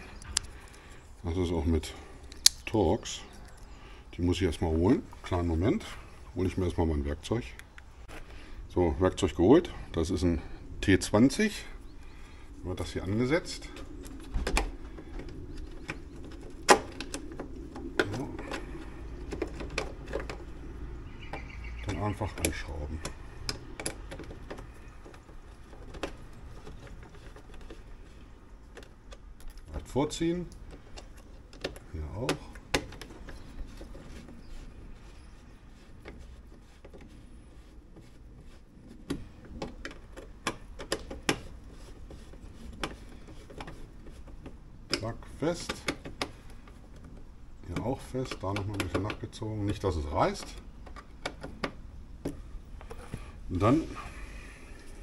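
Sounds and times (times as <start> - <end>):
quiet handling: 0.0 - 55.0.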